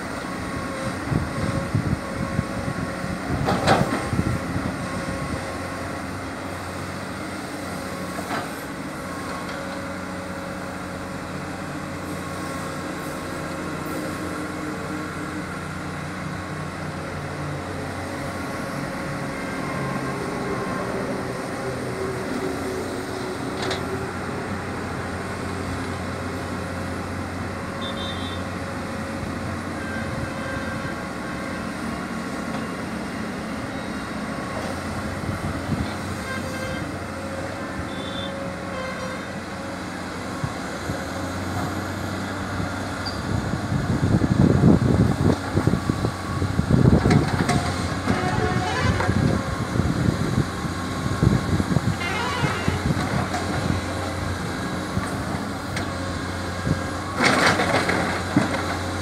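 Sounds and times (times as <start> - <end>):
excavator diesel engine droning: 0.0 - 59.0.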